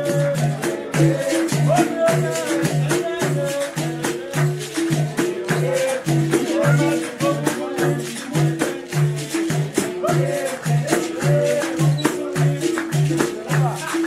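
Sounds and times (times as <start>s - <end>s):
person singing: 0.0s - 14.0s
shaken rattle: 0.0s - 14.0s.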